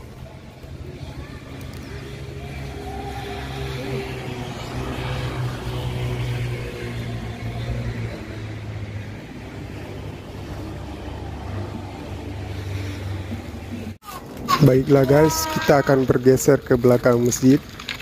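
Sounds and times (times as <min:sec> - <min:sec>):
traffic engines humming: 0:00.0 - 0:18.0.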